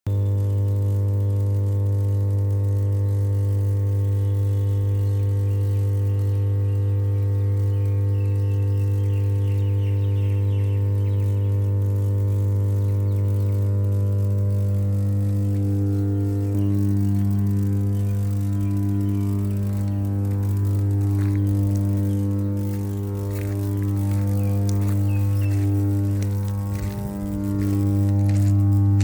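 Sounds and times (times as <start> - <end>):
power transformer humming: 0.0 - 29.0.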